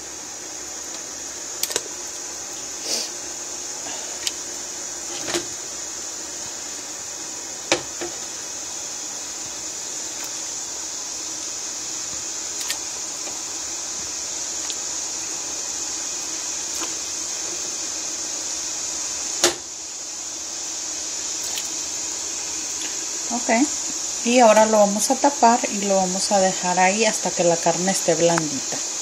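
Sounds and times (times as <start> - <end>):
water boiling in a pot: 0.0 - 29.0.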